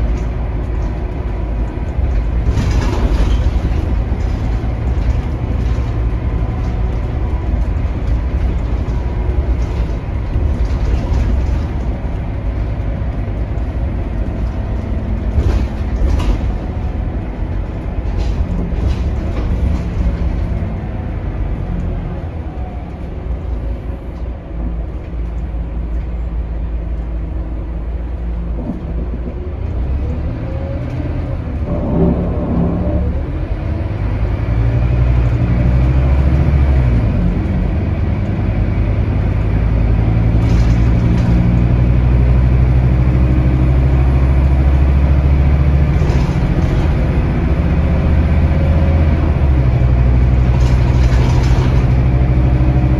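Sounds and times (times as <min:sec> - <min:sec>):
bus body rattles: 0:00.0 - 0:52.9
bus diesel engine running: 0:00.0 - 0:52.9
road rumble: 0:00.0 - 0:52.9.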